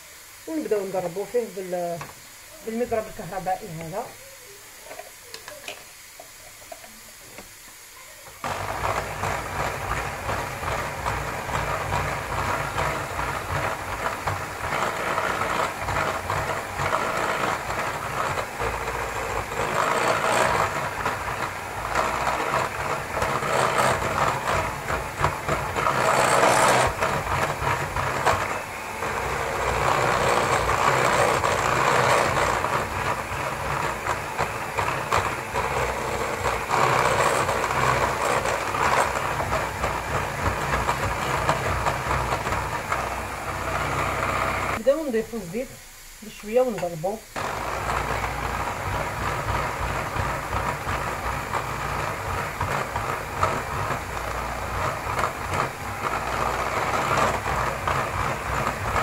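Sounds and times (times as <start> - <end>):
electric hand mixer whisking: 0.0 - 7.5, 8.2 - 45.8, 46.4 - 59.0.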